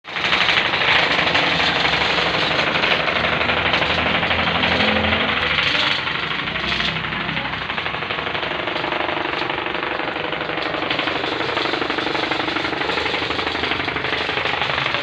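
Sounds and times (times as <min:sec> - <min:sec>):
machine rapid mechanical knocking: 0:00.0 - 0:15.0.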